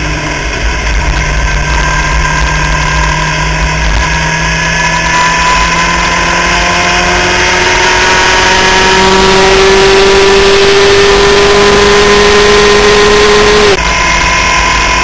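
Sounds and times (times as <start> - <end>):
race car engine at full throttle: 0.0 - 15.0
wind noise: 0.0 - 15.0.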